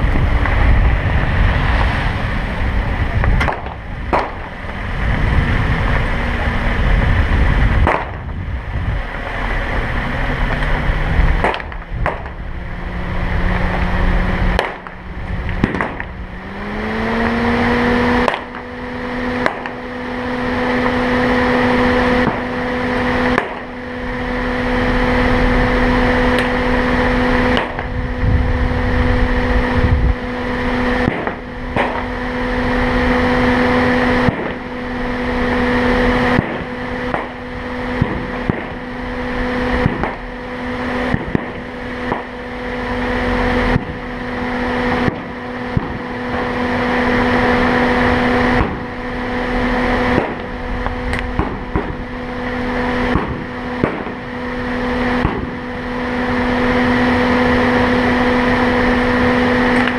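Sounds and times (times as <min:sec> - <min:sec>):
engine humming drone: 0:00.0 - 0:59.9
road and wind noise: 0:00.0 - 0:59.9.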